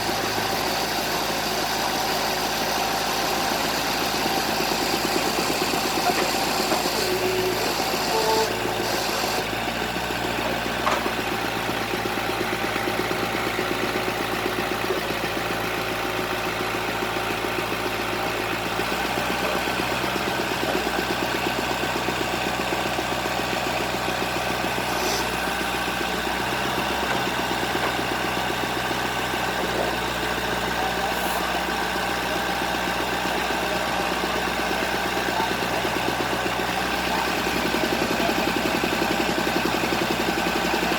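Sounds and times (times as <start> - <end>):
engine idling drone: 0.0 - 40.9.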